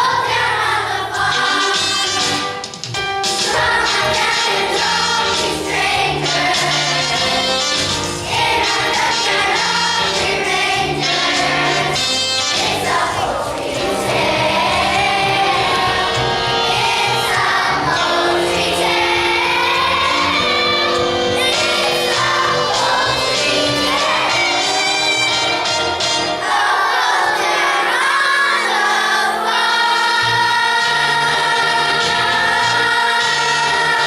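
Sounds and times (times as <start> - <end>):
children's chorus singing: 0.0 - 2.4, 3.4 - 34.0
instrumental accompaniment: 0.0 - 34.0.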